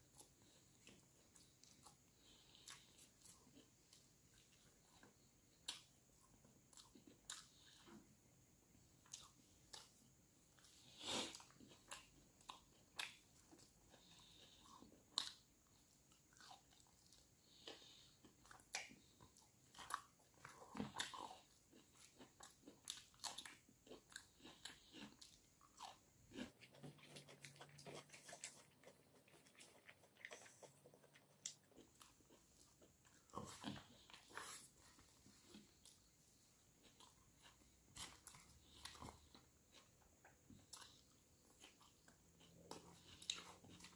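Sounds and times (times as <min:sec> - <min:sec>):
man chewing food: 0:00.0 - 0:43.9.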